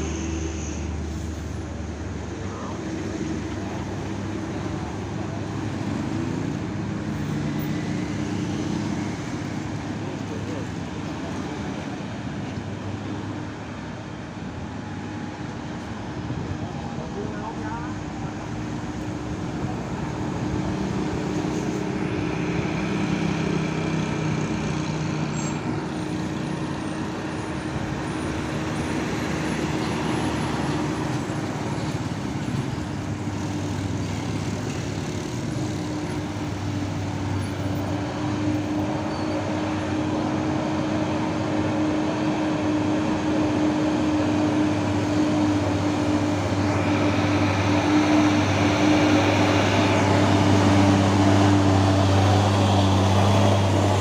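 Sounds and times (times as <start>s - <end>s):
diesel truck engines droning: 0.0s - 54.0s
road noise: 0.0s - 54.0s.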